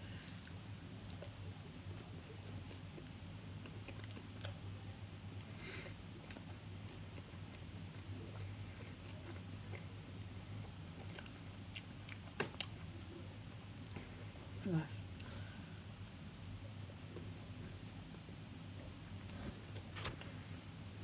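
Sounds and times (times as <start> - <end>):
low steady hum: 0.0 - 21.0
person chewing: 0.4 - 4.7, 6.2 - 14.4, 15.1 - 20.5.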